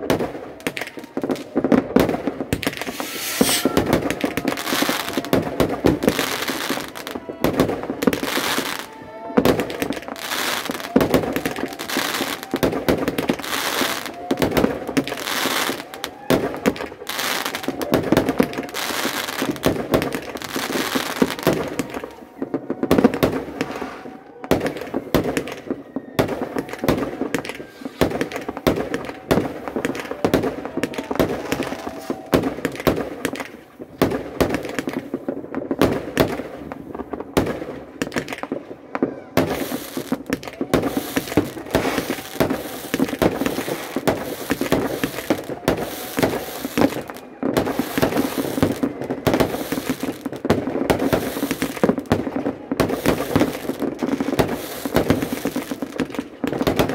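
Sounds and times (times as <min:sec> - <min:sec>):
fireworks launching and crackling: 0:00.0 - 0:56.9.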